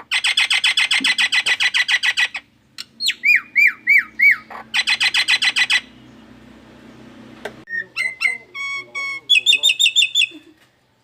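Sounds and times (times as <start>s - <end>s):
myna alarm call: 0.0s - 6.5s, 7.7s - 10.5s.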